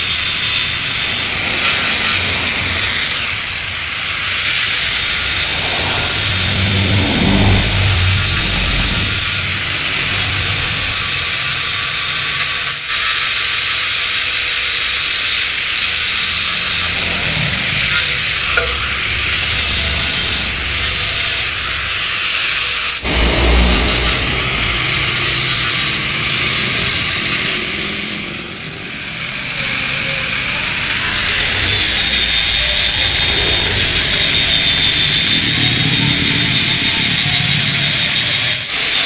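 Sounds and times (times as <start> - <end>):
power tool grinding sheet metal: 0.0 - 35.9.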